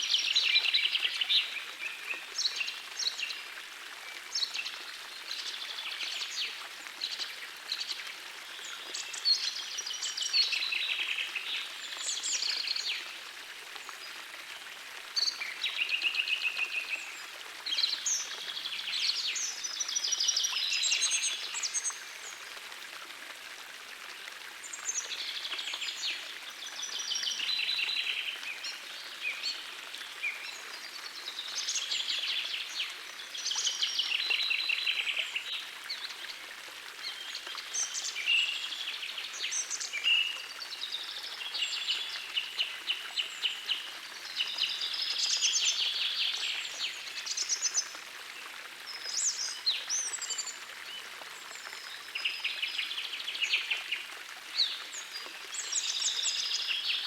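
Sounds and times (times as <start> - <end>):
gentle stream rushing: 0.0 - 57.0.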